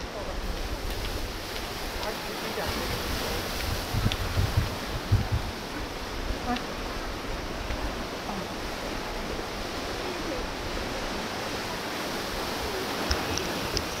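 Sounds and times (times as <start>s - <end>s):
sea and vegetation hiss: 0.0s - 14.0s
wind rumble on microphone: 0.0s - 14.0s.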